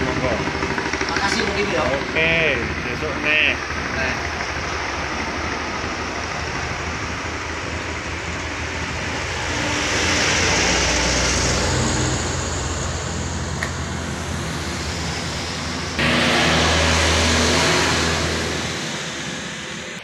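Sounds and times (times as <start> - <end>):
truck engines passing slowly: 0.0 - 20.0.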